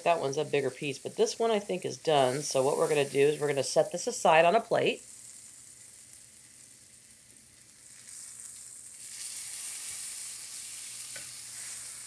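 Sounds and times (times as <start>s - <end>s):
steak sizzling in skillet: 0.0s - 12.0s.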